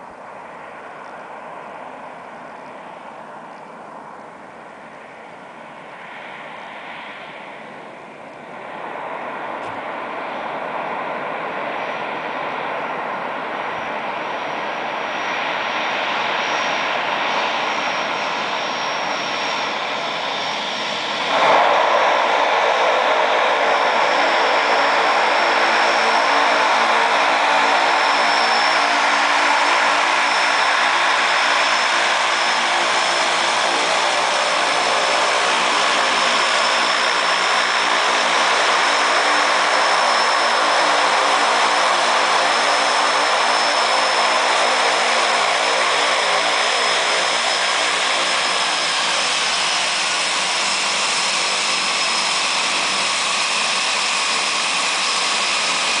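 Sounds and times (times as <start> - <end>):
propeller noise: 0.0 - 56.0
turboprop engines whining: 0.0 - 56.0.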